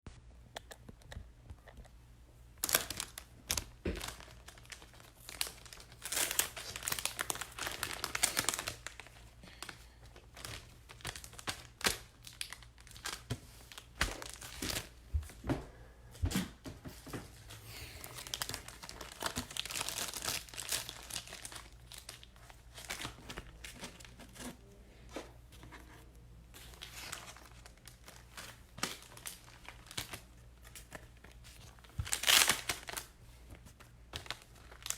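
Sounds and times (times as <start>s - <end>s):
plastic packaging crinkling and tearing: 2.6s - 15.0s, 18.0s - 34.9s.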